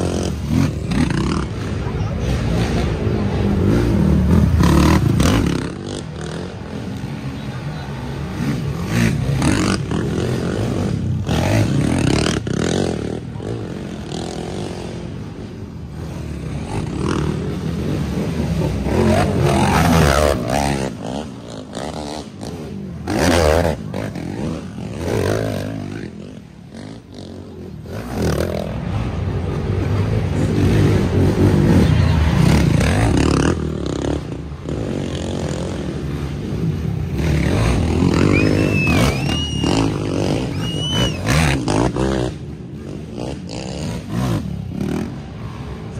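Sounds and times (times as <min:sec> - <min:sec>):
atv engines revving: 0:00.0 - 0:45.9.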